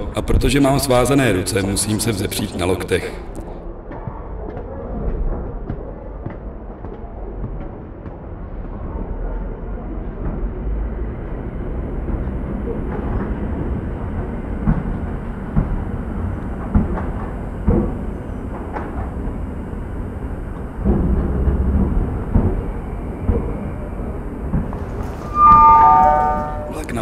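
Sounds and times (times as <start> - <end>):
train rumbling on rails: 5.3 - 27.0.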